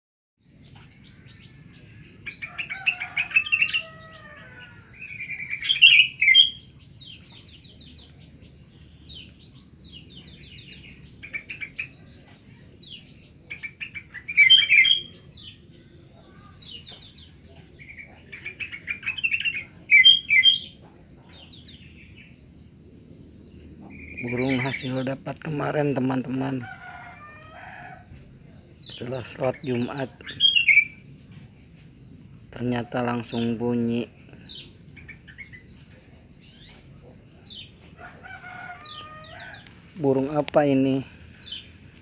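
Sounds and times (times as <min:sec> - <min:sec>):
songbird chirping: 0:00.4 - 0:42.0.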